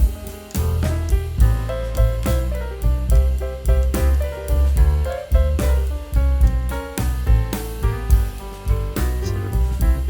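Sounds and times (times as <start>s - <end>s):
music with drums and bass: 0.0s - 10.0s.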